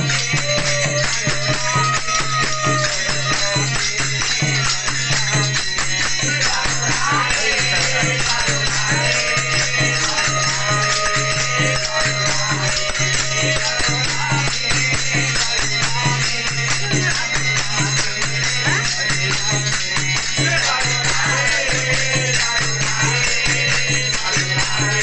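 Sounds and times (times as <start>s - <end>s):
group of men chanting: 0.0s - 5.5s, 6.2s - 25.0s
hand cymbals struck: 0.0s - 25.0s.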